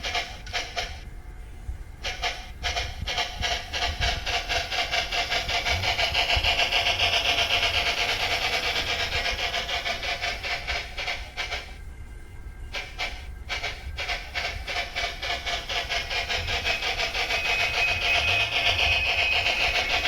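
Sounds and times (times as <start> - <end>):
model train steam chuffs: 0.0 - 1.1, 2.0 - 11.9, 12.6 - 20.0
steady hum: 0.0 - 20.0.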